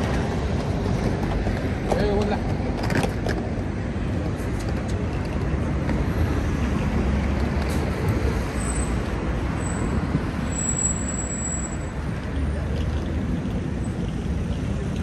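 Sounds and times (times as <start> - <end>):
city street rumble: 0.0 - 15.0.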